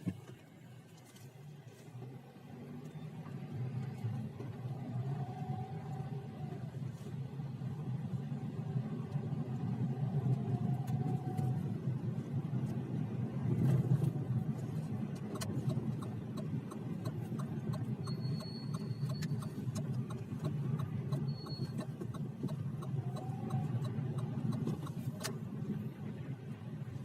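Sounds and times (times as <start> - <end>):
car road rumble: 0.0 - 27.0.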